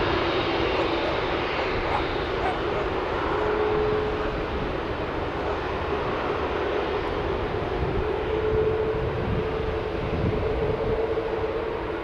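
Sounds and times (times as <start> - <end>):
jet engines at take-off: 0.0 - 12.0.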